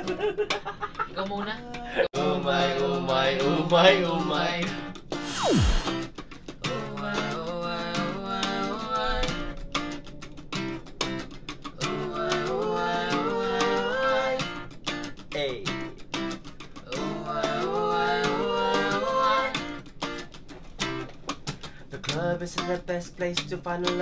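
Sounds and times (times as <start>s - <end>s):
acoustic guitar strumming: 2.2s - 24.0s.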